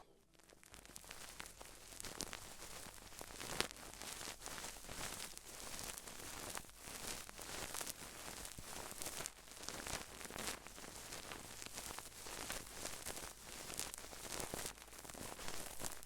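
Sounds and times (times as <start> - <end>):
close rustling and crackling: 0.0 - 16.0.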